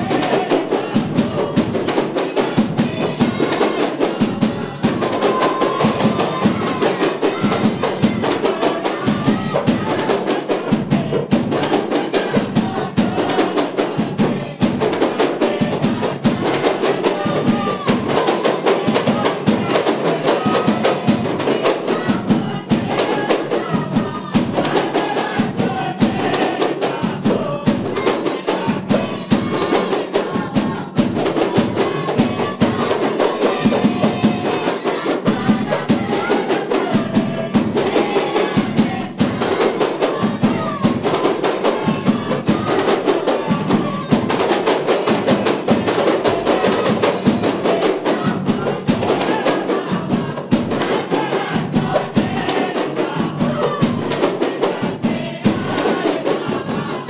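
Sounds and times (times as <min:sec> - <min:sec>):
frame drums beating: 0:00.0 - 0:57.0.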